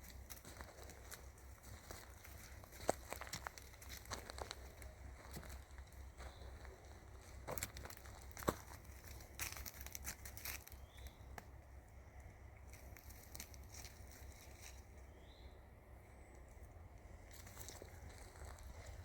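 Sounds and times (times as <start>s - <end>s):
dry leaves and twigs crackling: 0.0s - 19.0s.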